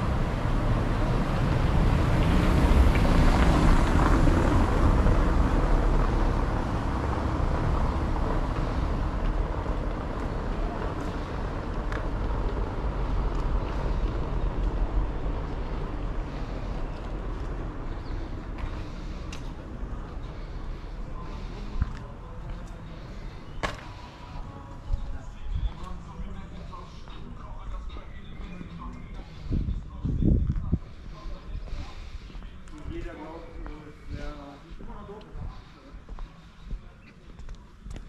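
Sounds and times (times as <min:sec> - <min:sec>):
car driving on cobblestones: 0:00.0 - 0:38.0.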